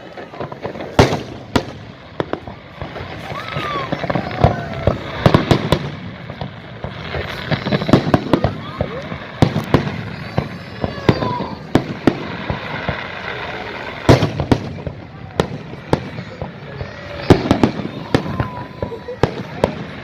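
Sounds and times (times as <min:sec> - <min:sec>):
fireworks bangs: 0:00.0 - 0:20.0
people's voices: 0:00.0 - 0:20.0.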